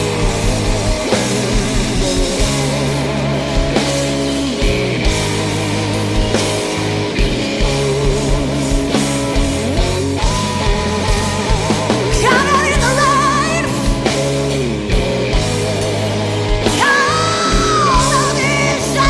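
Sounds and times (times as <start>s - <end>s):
drums slow steady beat: 0.0s - 19.0s
electric guitar with vibrato: 0.0s - 19.0s
sustained bass notes: 0.0s - 19.0s.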